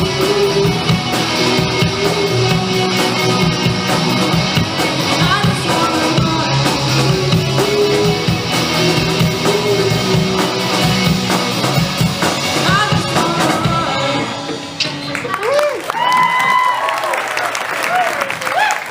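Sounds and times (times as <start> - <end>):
bass guitar: 0.0 - 15.6
drum kit: 0.0 - 16.7
electric guitars: 0.0 - 16.8.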